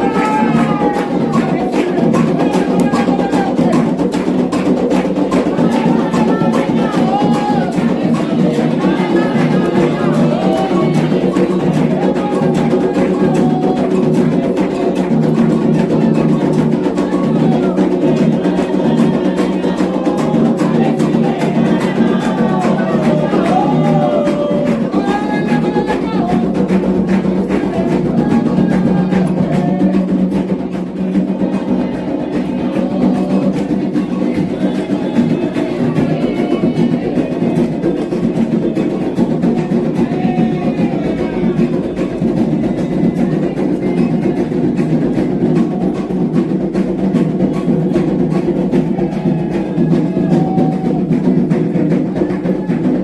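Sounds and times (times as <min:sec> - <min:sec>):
clacking percussion: 0:00.0 - 0:53.0
fast hand drumming: 0:00.0 - 0:53.0
voices chanting: 0:00.0 - 0:53.0.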